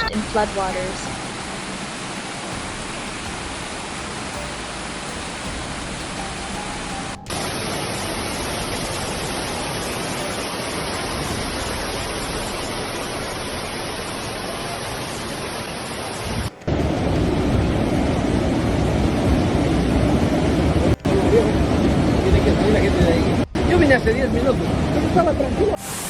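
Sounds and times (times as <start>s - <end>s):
rushing floodwater roar: 0.0s - 26.0s.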